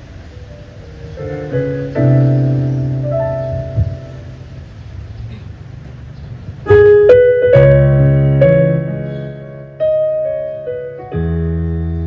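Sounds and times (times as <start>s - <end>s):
sustained piano chords: 0.0s - 12.0s.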